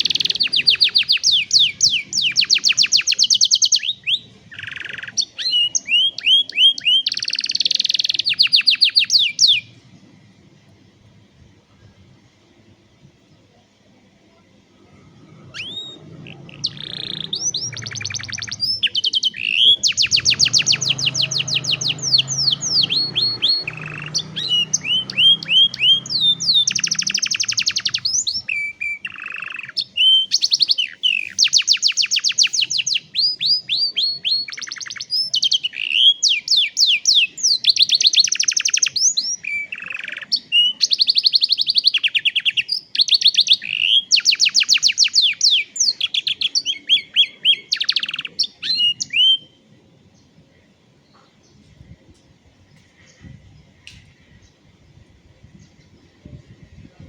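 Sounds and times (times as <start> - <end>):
canary singing trills: 0.0 - 10.0, 14.7 - 50.4.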